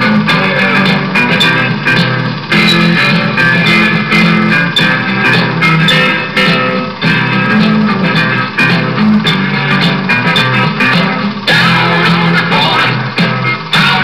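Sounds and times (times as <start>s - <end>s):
instrumental guitar music with beat: 0.0s - 14.0s.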